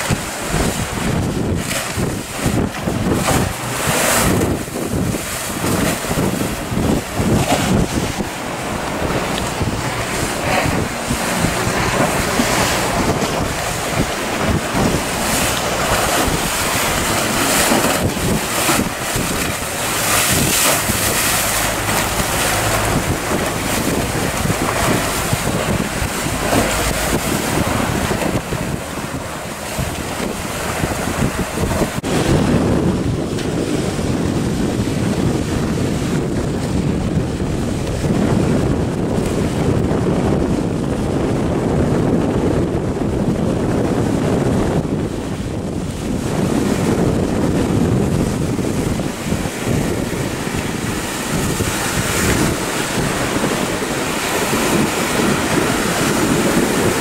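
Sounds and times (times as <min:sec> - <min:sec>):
choppy sea water: 0:00.0 - 0:57.0
wind buffeting microphone: 0:00.0 - 0:57.0.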